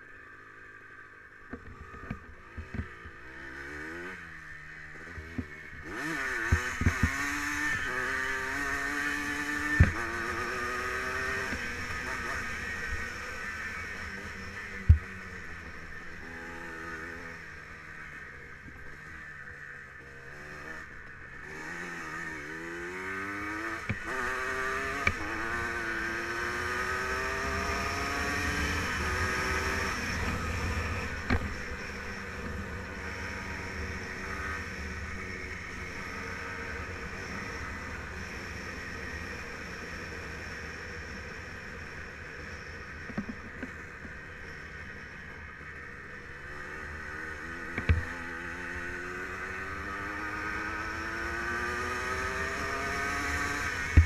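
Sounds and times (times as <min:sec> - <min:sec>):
two-stroke engine accelerating: 0:00.0 - 0:54.0.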